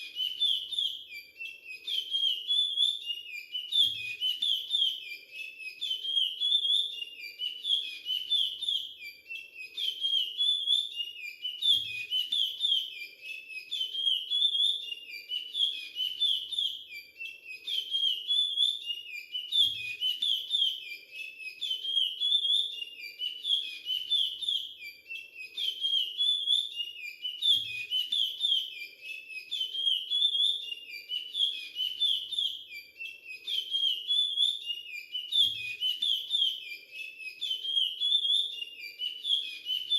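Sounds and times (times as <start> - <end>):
finch whistled song: 0.0 - 39.9.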